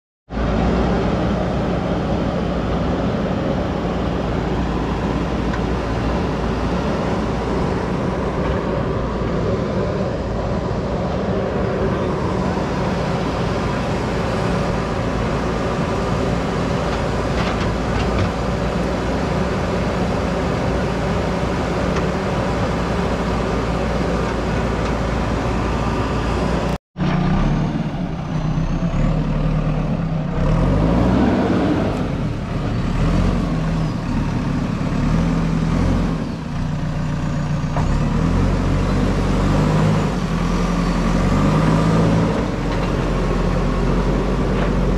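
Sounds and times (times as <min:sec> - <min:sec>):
diesel engine running: 0:00.3 - 0:44.9.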